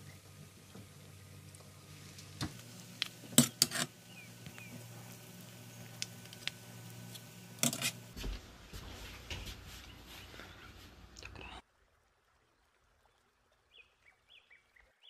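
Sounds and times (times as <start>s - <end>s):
faint steady hum: 0.0s - 14.2s.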